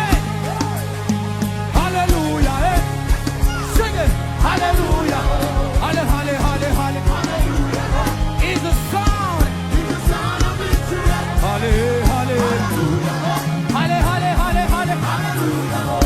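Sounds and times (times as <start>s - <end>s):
bass line: 0.0s - 16.0s
gospel singing: 0.0s - 16.0s
drum beat: 1.7s - 15.2s.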